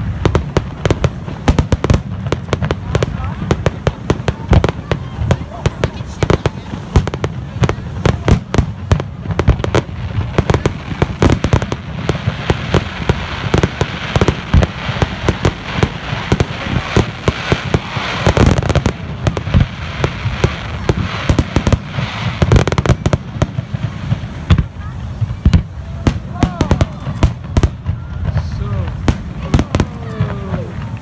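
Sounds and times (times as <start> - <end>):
fireworks booms and bangs: 0.0 - 31.0.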